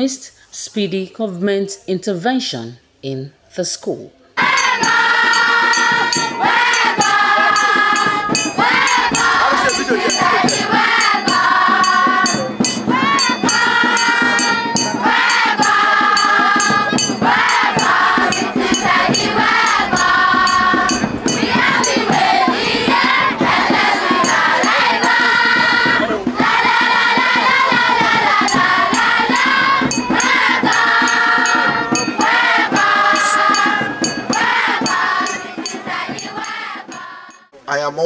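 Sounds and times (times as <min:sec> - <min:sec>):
group singing in chorus: 0:04.4 - 0:37.5
hand percussion beat: 0:04.4 - 0:37.5.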